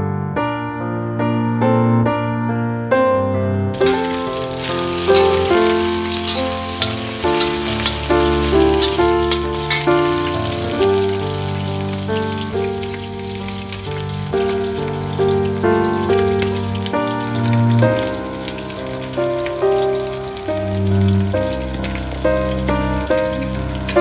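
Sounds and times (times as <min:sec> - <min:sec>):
piano music: 0:00.0 - 0:24.0
meat sizzling in oil: 0:03.8 - 0:24.0.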